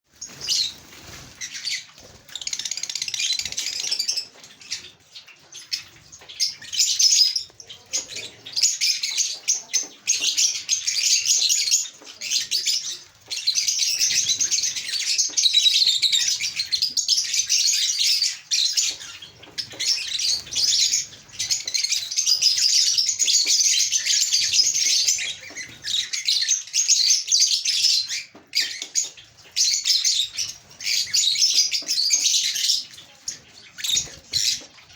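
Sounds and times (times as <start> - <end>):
caged birds chirping: 0.1 - 34.9.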